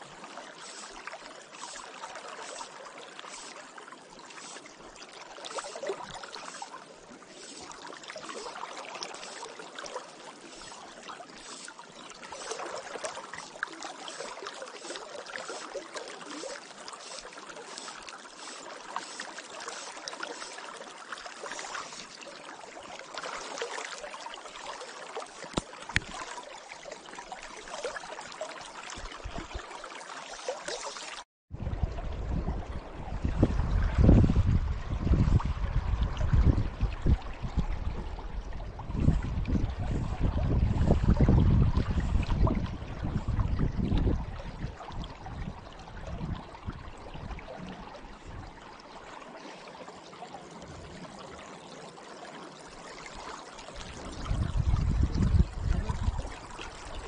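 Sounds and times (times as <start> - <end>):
river water flowing and gurgling: 0.0 - 57.0.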